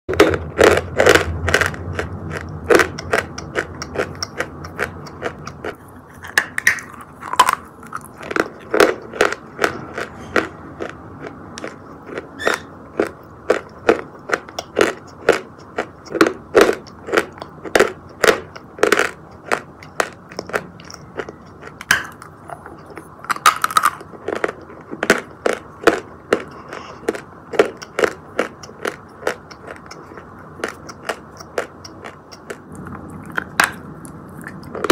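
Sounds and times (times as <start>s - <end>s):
chewing crunchy chalk: 0.1s - 34.9s.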